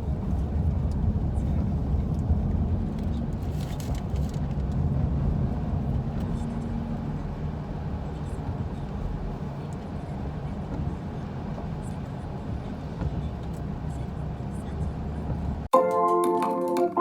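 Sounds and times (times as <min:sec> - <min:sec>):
car cabin rumble: 0:00.0 - 0:15.7
faint engine hum: 0:00.0 - 0:15.7.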